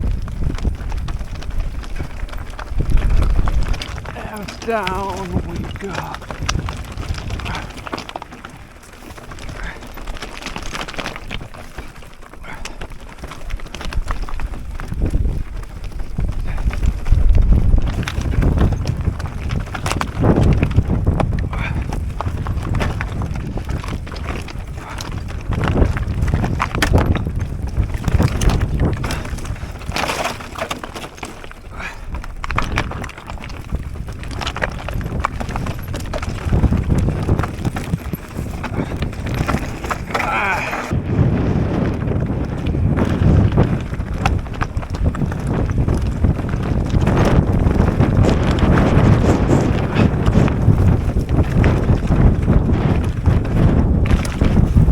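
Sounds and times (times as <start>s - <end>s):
bike rattling over bumps: 0.0s - 54.9s
bike tyres on dirt: 0.0s - 54.9s
wind buffeting microphone: 0.0s - 54.9s.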